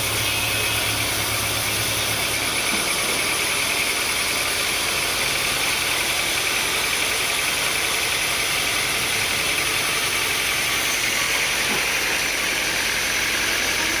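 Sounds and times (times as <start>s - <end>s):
sawmill machinery drone: 0.0s - 14.0s.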